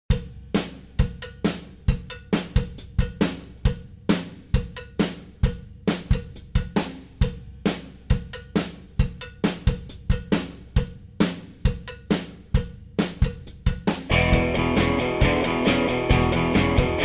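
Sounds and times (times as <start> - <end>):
drum kit playing a beat: 0.0 - 17.0.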